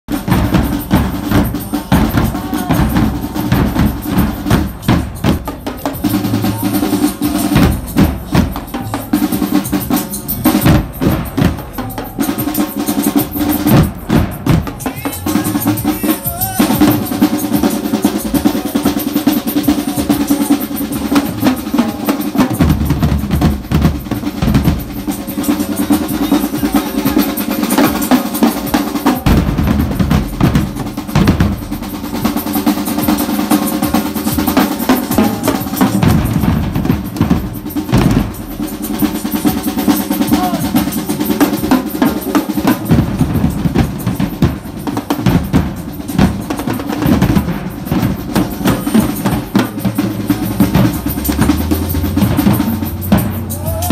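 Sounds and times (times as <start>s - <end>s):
marching bass drum beats: 0.0s - 53.9s
snare drum strokes and rolls: 0.1s - 53.9s.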